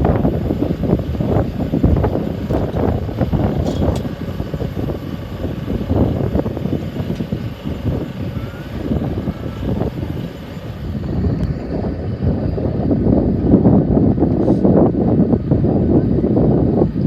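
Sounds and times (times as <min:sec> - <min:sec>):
aircraft engines: 0:00.0 - 0:17.0
gusty wind buffeting microphone: 0:00.0 - 0:17.0.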